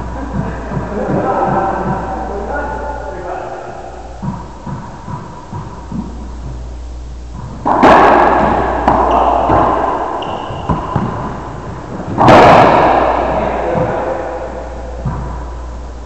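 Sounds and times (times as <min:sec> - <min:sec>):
racquetball banging off court walls: 0:00.0 - 0:02.9, 0:03.9 - 0:15.9.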